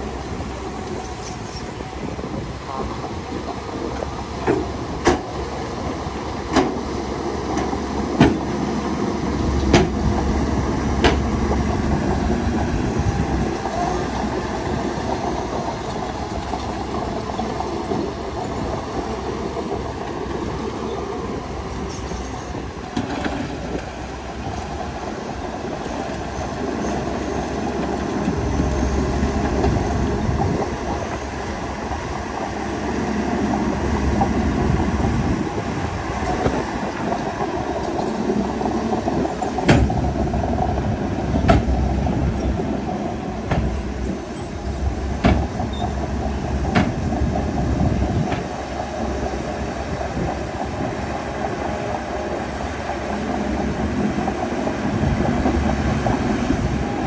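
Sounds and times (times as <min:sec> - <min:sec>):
bulldozer engine rumbling: 0:00.0 - 0:57.0
tracks clattering: 0:00.0 - 0:57.0.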